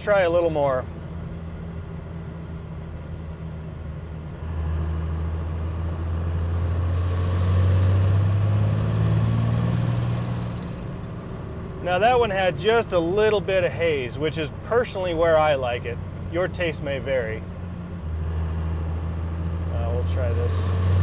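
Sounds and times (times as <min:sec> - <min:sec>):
diesel engine accelerating: 0:00.0 - 0:21.0.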